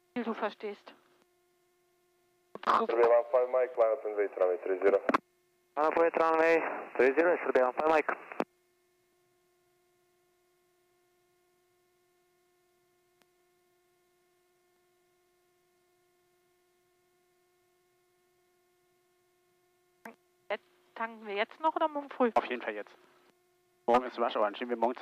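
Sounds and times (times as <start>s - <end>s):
faint electrical hum: 0.0s - 25.0s.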